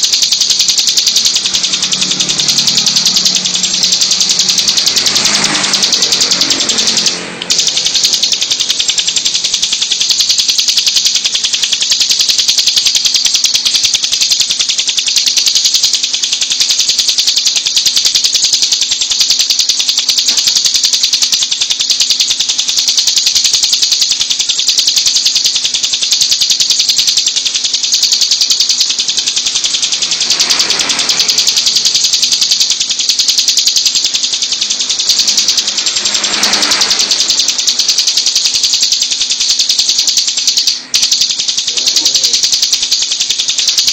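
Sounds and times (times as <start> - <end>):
bird singing high-pitched trill: 0.0 - 43.9.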